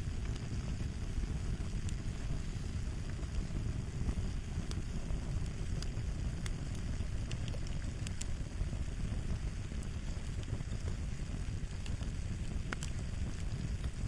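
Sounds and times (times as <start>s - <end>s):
fire burning rumble: 0.0s - 14.0s
fire pops and snaps: 0.0s - 14.0s.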